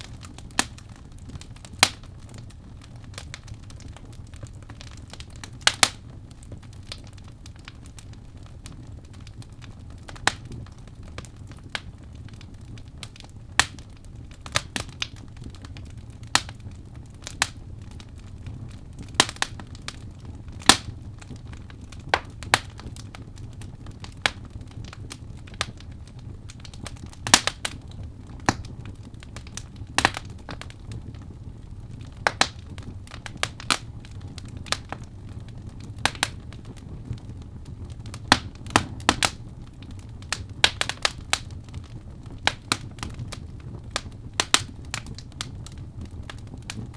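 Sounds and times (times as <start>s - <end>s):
wood fire crackling and popping: 0.0s - 46.9s.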